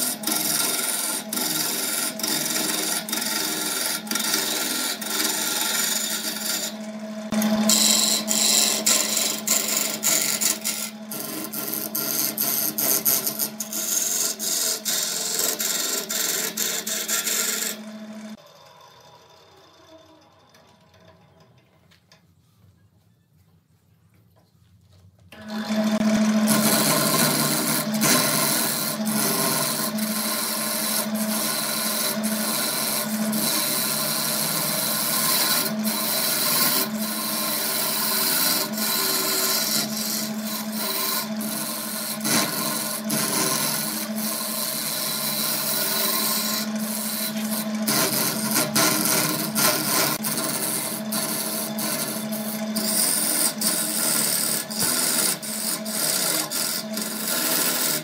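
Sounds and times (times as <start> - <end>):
gouge scraping wood: 0.0 - 17.8, 26.4 - 58.0
lathe motor hum: 0.0 - 21.2, 25.4 - 58.0.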